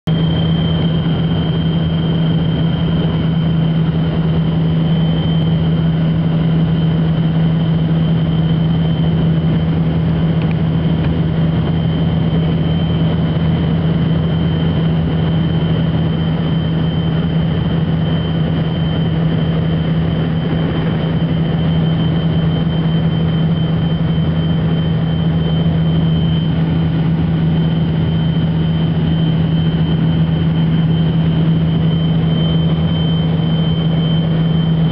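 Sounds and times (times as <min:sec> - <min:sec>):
jet engines whining: 0:00.1 - 0:34.9.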